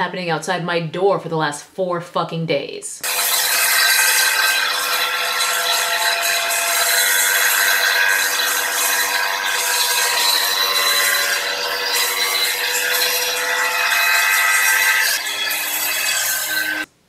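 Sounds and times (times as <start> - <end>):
power tool grinding floor: 3.0 - 16.9.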